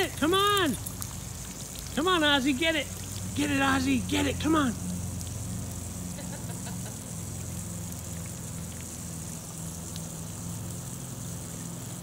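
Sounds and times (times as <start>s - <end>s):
low machine hum: 0.0s - 12.0s
water jets hissing and pattering: 0.0s - 12.0s.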